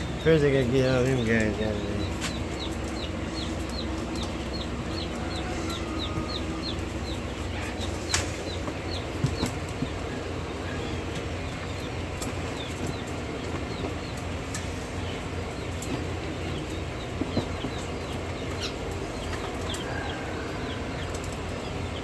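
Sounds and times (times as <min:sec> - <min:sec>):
chick peeping: 0:00.0 - 0:22.0
steady low hum: 0:00.0 - 0:22.0.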